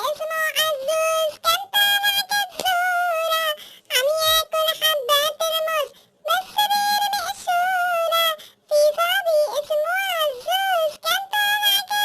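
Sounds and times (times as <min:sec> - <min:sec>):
high-pitched voice singing: 0:00.0 - 0:12.0.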